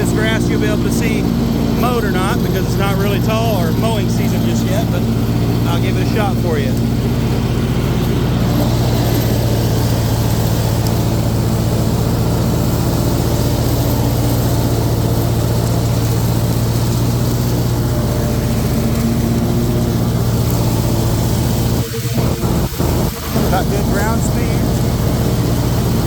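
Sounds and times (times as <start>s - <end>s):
riding mower engine running: 0.0s - 26.0s.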